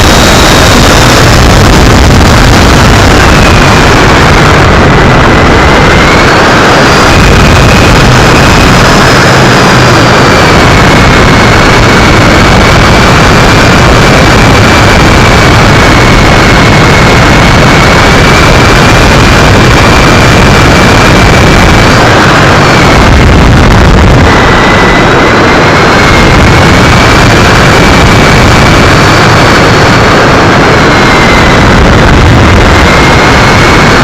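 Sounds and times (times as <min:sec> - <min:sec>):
heavy wind rush: 0:00.0 - 0:34.0
high electric motor whine: 0:00.0 - 0:34.0.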